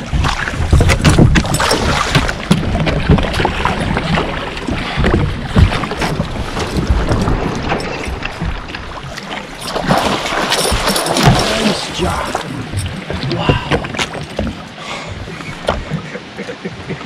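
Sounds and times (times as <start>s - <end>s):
fish thrashing and splashing water: 0.0s - 14.8s
wind rumbling on microphone: 0.0s - 17.0s.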